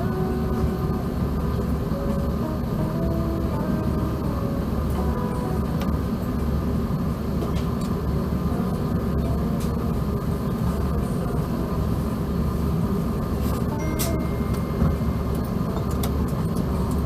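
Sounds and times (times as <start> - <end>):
aircraft cabin rumble and hiss: 0.0 - 17.0.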